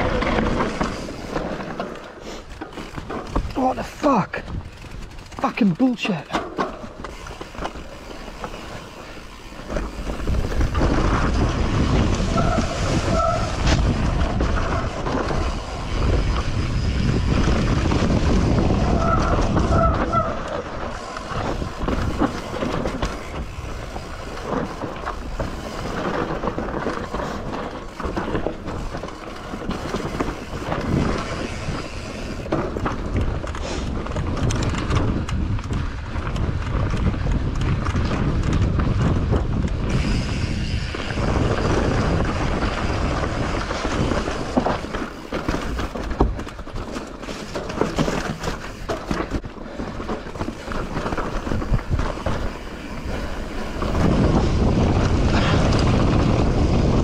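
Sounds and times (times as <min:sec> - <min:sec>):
bike chain and frame rattling: 0:00.0 - 0:57.0
bike tyres rumbling over dirt: 0:00.0 - 0:57.0.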